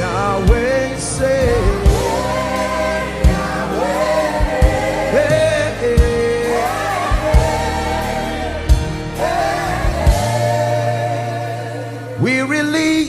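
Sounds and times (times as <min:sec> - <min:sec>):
deep drum beat: 0:00.0 - 0:11.2
band playing: 0:00.0 - 0:13.0
voices singing gospel: 0:00.0 - 0:13.0.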